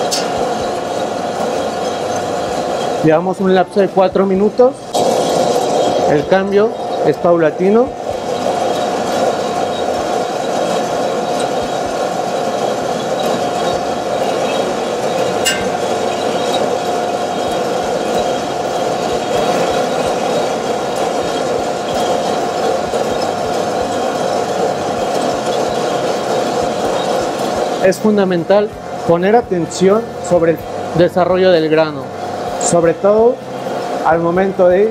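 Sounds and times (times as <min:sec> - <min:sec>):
coffee roaster machine hum: 0:00.0 - 0:34.9.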